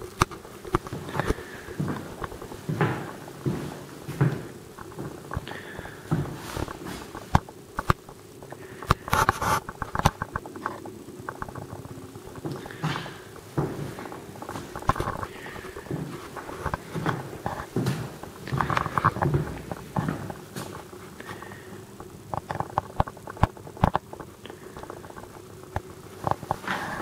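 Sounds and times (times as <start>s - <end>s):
footsteps: 0.0s - 27.0s.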